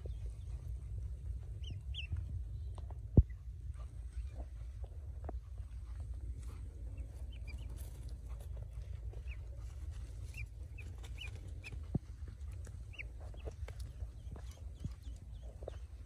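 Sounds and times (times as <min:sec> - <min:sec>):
ducklings peeping: 0:00.0 - 0:16.0
steady low rumble: 0:00.0 - 0:16.0.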